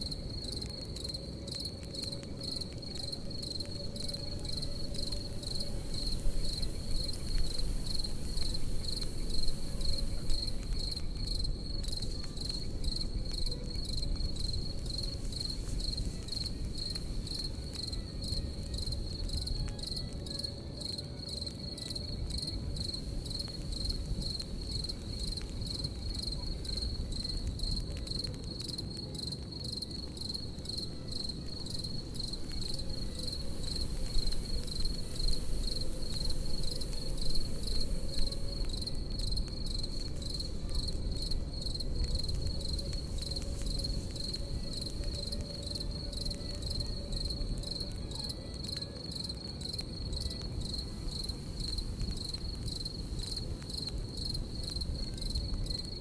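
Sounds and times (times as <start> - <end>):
campfire crackling: 0.0 - 56.0
crickets chirping: 0.0 - 56.0.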